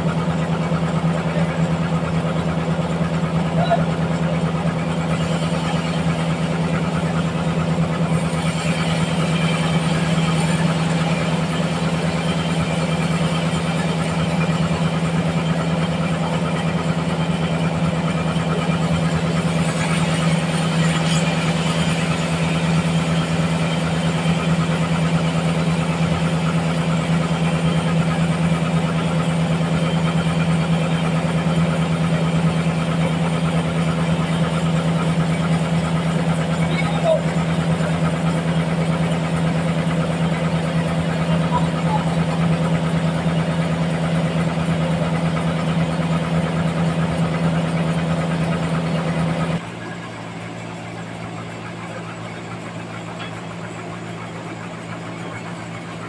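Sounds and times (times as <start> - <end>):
band saw cutting log: 0.0 - 50.0.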